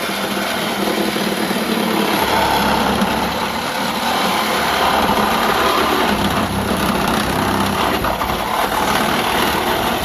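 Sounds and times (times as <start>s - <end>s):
reciprocating saw cutting metal: 0.0s - 10.0s.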